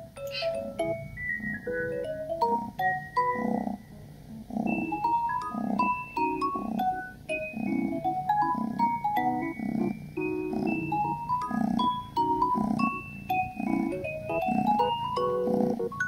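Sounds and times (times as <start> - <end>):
mallet instrument melody: 0.0 - 3.5, 4.7 - 16.0.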